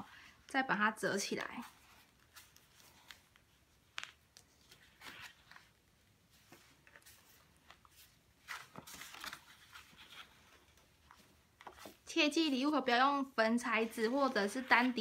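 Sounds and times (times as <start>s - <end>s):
paper rustling and creasing: 1.3s - 13.0s, 13.7s - 15.0s.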